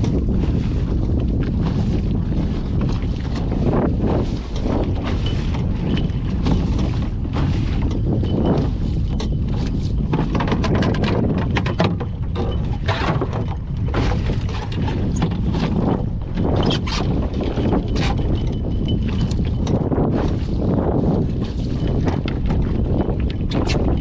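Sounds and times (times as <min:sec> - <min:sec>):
rush of boat motion: 0:00.0 - 0:24.0
wind buffeting microphone: 0:00.0 - 0:24.0.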